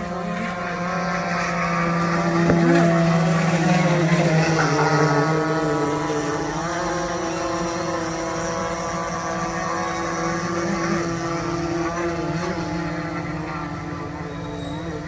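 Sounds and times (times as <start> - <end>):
model boat motor whining: 0.0 - 15.0.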